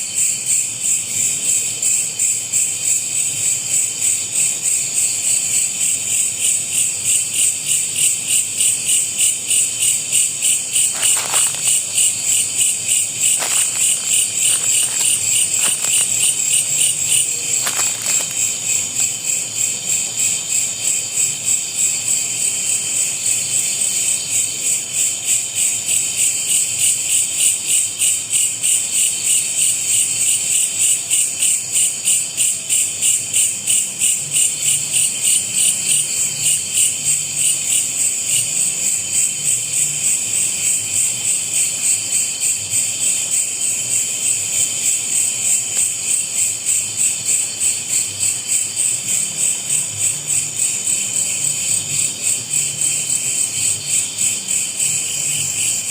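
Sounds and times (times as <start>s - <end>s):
night insects chorus: 0.0s - 55.9s.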